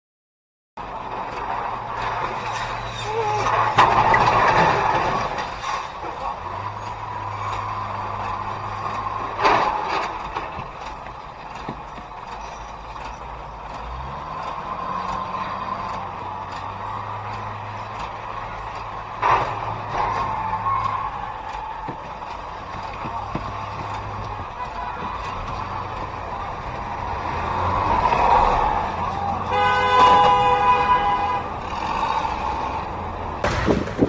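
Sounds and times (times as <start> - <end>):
traffic noise: 0.8 - 34.0
car engine idling: 5.4 - 34.0.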